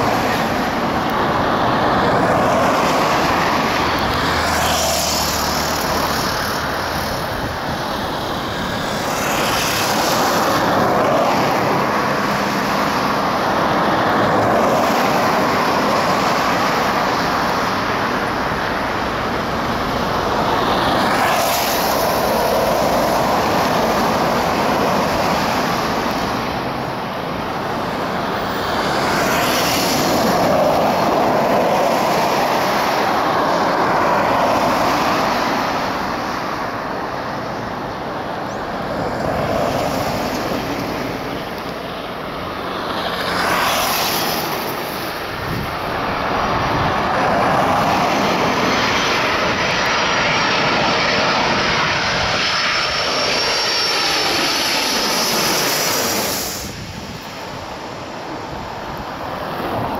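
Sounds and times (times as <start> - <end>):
jet airliner rushing noise: 0.0 - 59.9
thin high jet whine: 0.0 - 59.9.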